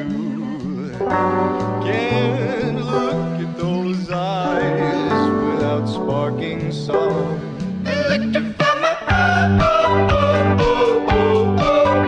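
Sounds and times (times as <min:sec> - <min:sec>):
background song with beat: 0:00.0 - 0:12.0.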